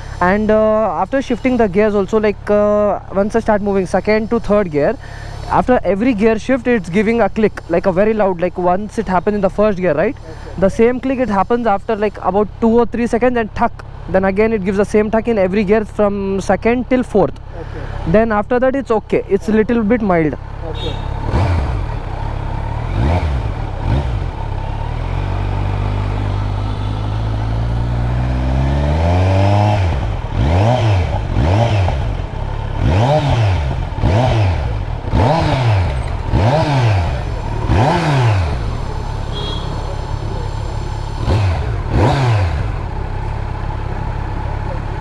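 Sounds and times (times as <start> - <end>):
motorcycle engine idling and revving: 0.0 - 45.0.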